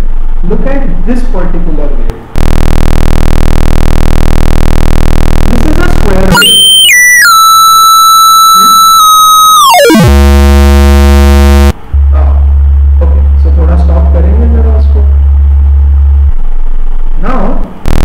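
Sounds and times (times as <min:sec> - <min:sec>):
square-wave tone: 0:02.2 - 0:17.2, 0:17.8 - 0:18.0.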